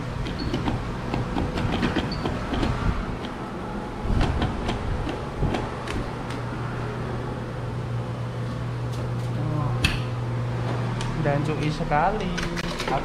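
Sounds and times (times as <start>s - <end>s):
claw machine hum: 0.0s - 13.0s.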